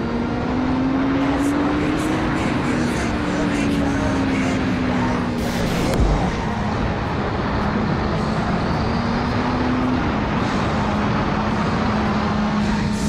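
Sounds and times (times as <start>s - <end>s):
heavy wind noise: 0.0s - 13.0s
motorcycle engine running: 0.0s - 13.0s.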